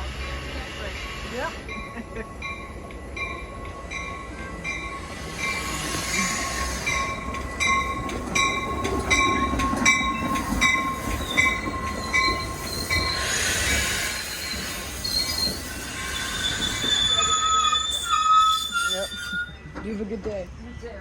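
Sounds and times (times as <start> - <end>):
train wheel squeal: 0.0 - 20.0
train rumbling past: 0.0 - 21.0.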